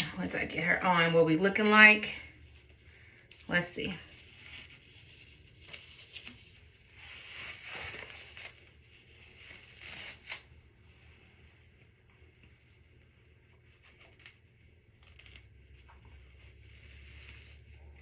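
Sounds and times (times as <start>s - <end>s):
wig rustling and handling: 0.1s - 18.0s.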